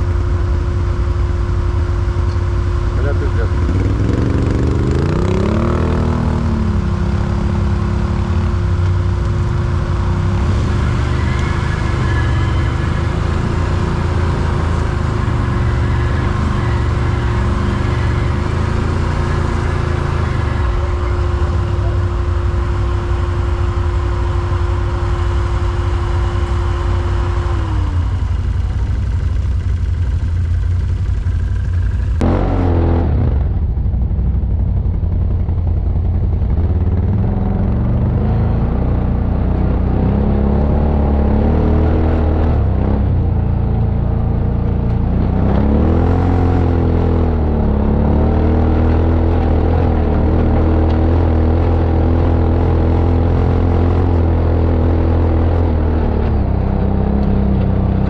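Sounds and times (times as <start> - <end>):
quad bike engine rumbling: 0.0 - 58.0.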